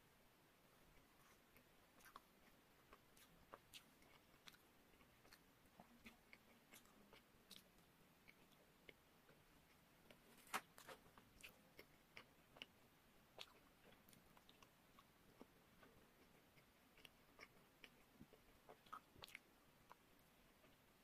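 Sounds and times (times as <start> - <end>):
person chewing with crunches: 1.0 - 20.0.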